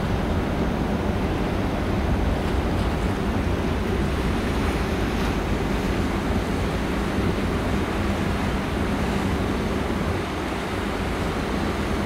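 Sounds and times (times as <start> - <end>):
ferry engines rumbling: 0.0 - 12.0.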